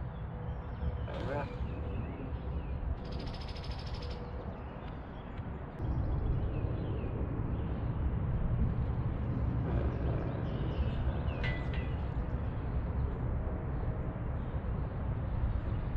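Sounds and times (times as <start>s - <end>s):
low outdoor rumble: 0.0s - 15.9s.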